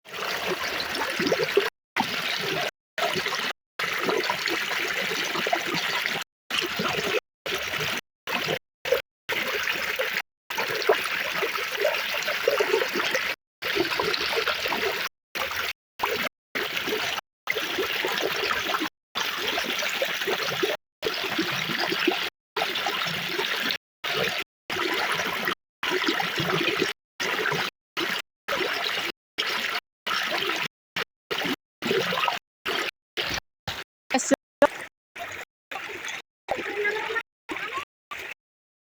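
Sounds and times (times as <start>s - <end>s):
water trickling and splashing: 0.0s - 38.3s.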